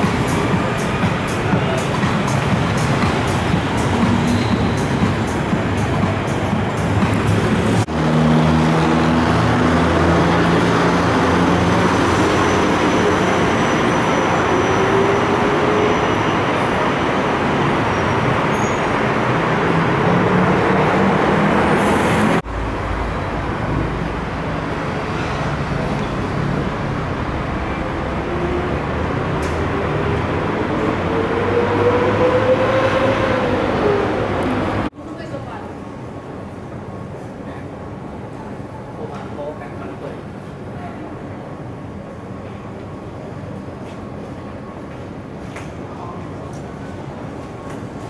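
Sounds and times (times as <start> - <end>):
road traffic noise: 0.0 - 48.0.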